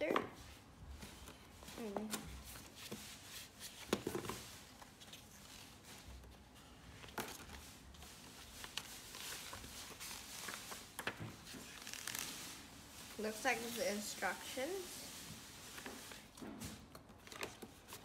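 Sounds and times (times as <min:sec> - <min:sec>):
paper rustling and crinkling: 0:00.9 - 0:18.0.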